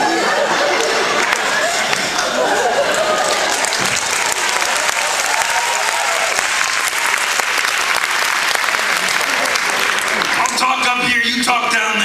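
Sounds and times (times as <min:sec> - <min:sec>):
audience applauding: 0:00.2 - 0:11.1.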